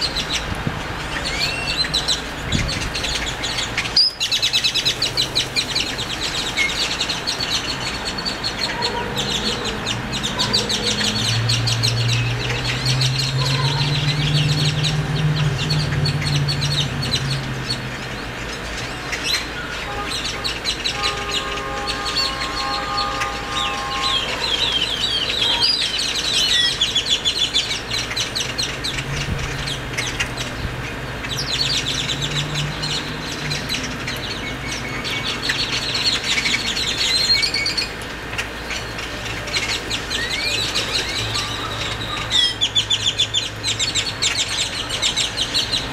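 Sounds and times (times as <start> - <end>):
birds chattering: 0.0 - 45.9.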